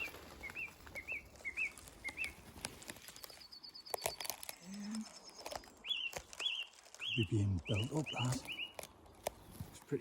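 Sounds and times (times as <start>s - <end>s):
clicks and rustles: 0.0s - 7.2s, 7.9s - 10.0s.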